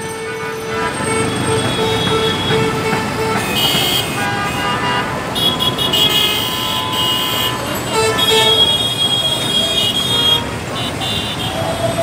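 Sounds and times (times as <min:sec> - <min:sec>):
road traffic engines: 0:00.0 - 0:12.0
vehicle horns honking: 0:00.0 - 0:12.0.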